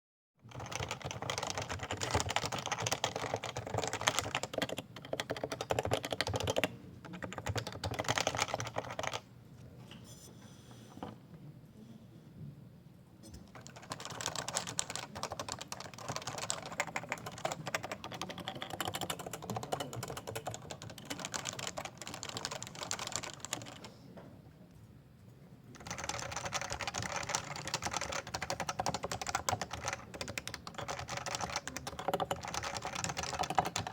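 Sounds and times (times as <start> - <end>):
rapid keyboard typing: 0.5 - 9.3, 13.4 - 23.9, 25.7 - 33.9.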